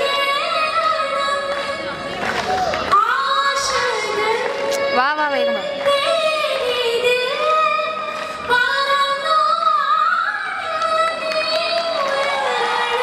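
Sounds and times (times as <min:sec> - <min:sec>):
woman singing: 0:00.0 - 0:01.9, 0:02.9 - 0:13.0.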